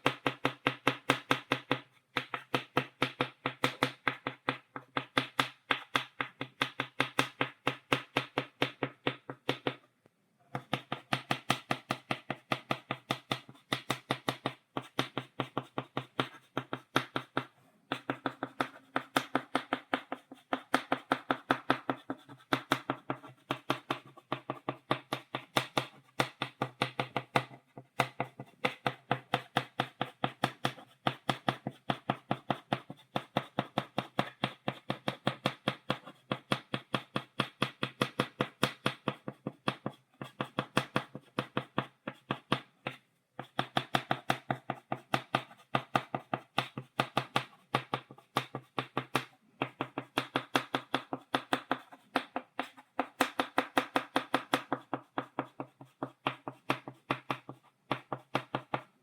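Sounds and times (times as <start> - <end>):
chalk tapping on blackboard: 0.0 - 9.8, 10.5 - 59.0.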